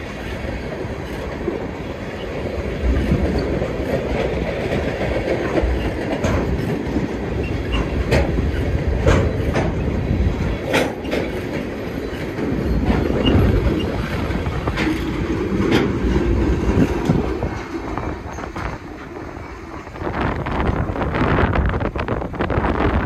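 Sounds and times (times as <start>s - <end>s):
train wheels rumbling on rail: 0.0s - 23.0s
wheels clanking over rail joints: 0.0s - 23.0s.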